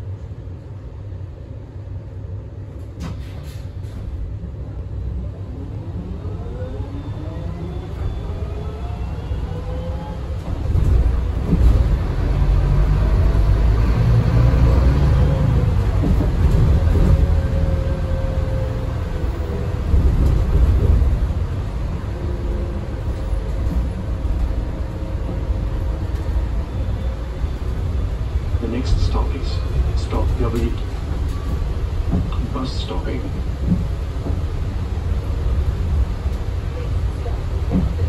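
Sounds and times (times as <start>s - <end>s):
bus engine rumbling: 0.0s - 38.0s.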